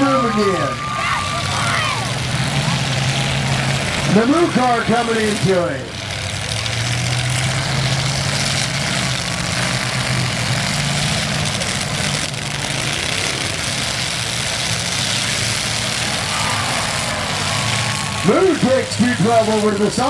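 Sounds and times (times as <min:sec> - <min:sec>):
car engines droning: 0:00.0 - 0:20.0.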